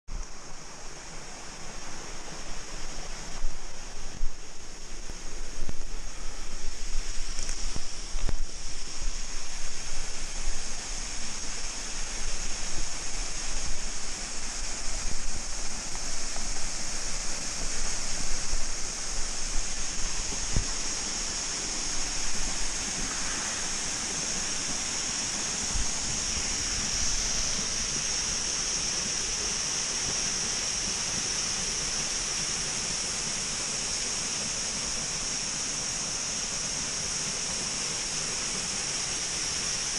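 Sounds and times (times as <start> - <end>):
waterfall rushing: 0.3 - 39.9.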